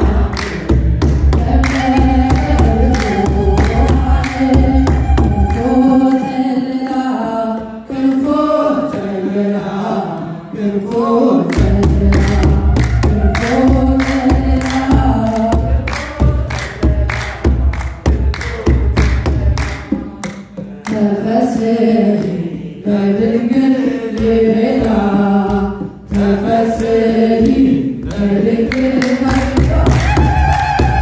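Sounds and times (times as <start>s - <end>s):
drum beaten in steady strokes: 0.0s - 31.0s
group singing a hymn: 0.0s - 31.0s.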